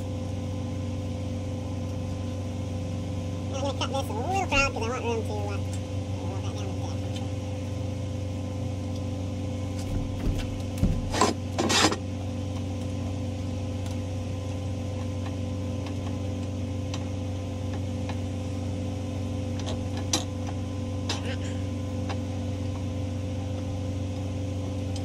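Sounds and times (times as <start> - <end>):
mechanical hum of equipment: 0.0 - 25.0.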